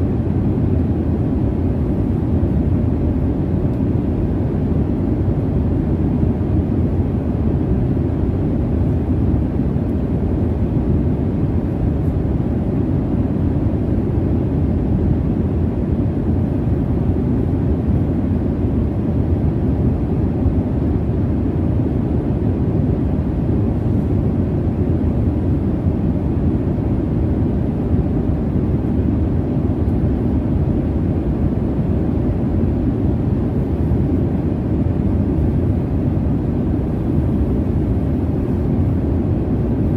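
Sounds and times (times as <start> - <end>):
faint steady hum: 0.0 - 39.9
jet engine rumble in cabin: 0.0 - 39.9.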